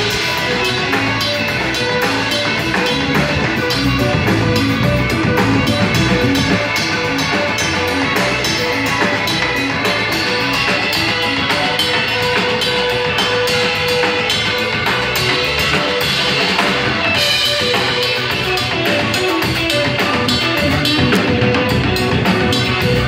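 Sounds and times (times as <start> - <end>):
band playing jazzy music: 0.0 - 23.0
electric guitar: 0.0 - 23.0.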